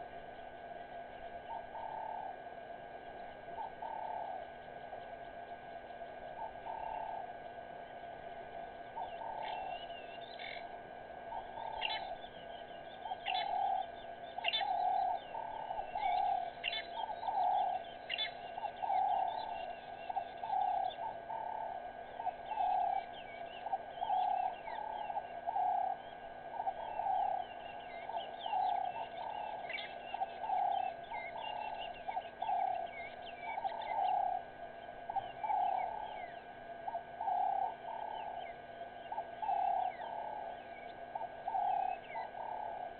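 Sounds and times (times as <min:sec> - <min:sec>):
bird cooing: 0:00.0 - 0:00.6, 0:01.2 - 0:42.9
small birds chirping: 0:00.0 - 0:42.9.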